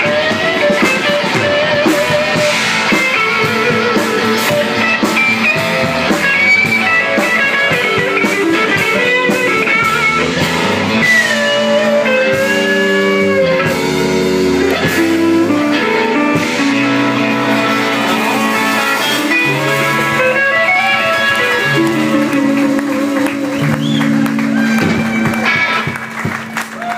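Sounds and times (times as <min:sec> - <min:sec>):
bass notes: 0:00.0 - 0:26.9
lead electric guitar bending notes: 0:00.0 - 0:26.9.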